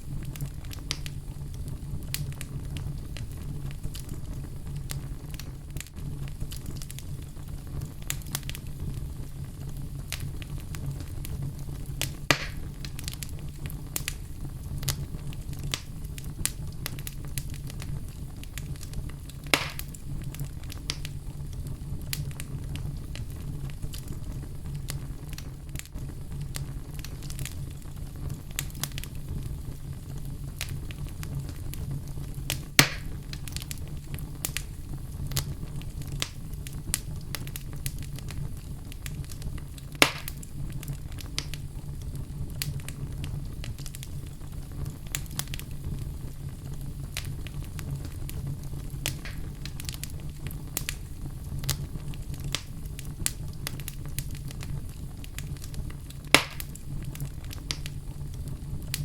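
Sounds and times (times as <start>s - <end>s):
fire crackling: 0.0s - 59.0s
fire flames rumbling: 0.0s - 59.0s
fire popping: 0.0s - 59.0s.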